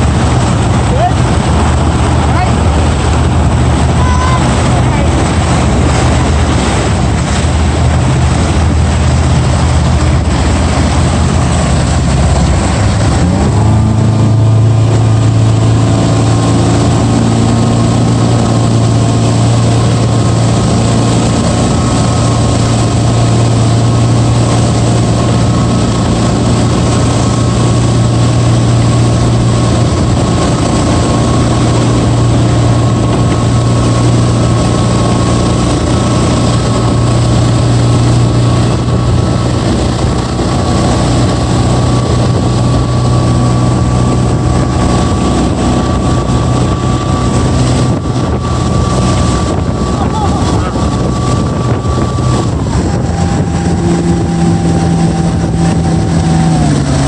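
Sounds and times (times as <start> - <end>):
motorboat engine: 0.0 - 57.0
water rushing from wake: 0.0 - 57.0.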